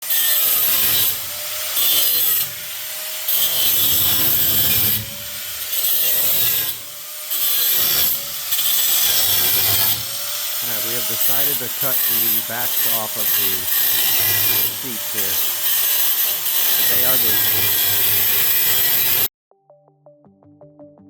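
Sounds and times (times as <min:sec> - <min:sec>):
reciprocating saw cutting: 0:00.0 - 0:19.3.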